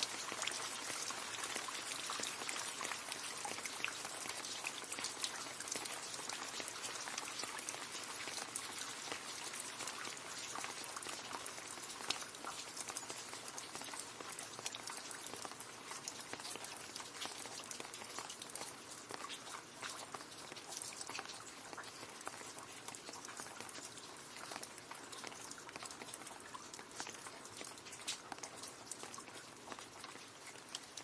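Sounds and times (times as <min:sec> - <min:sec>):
rain splashing into puddle: 0:00.0 - 0:31.0.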